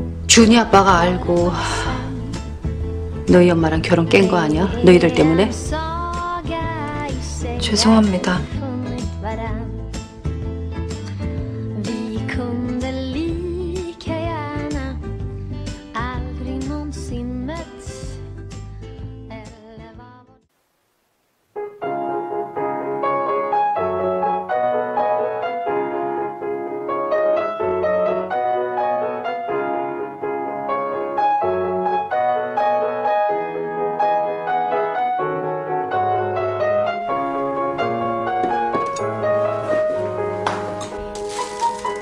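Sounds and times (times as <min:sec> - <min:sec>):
background piano music: 0:00.0 - 0:20.1, 0:21.5 - 0:42.0.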